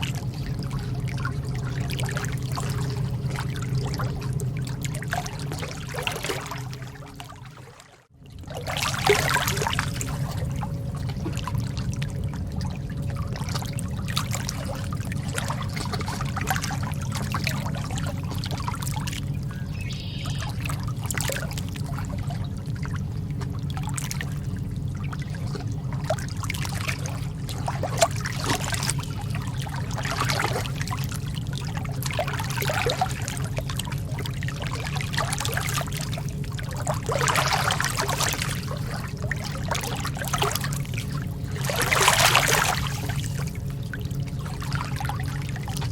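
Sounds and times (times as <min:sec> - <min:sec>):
lake water lapping: 0:00.0 - 0:45.9
steady low rumble: 0:00.0 - 0:45.9.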